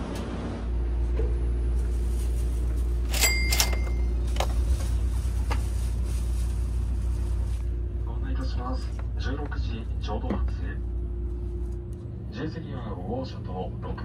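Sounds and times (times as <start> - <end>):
train carriage low hum: 0.0 - 14.0.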